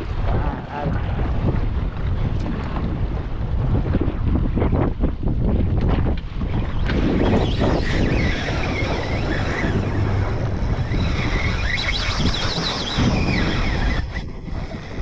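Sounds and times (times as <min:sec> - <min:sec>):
water rumbling around hull: 0:00.0 - 0:15.0
wind buffeting microphone: 0:00.0 - 0:15.0.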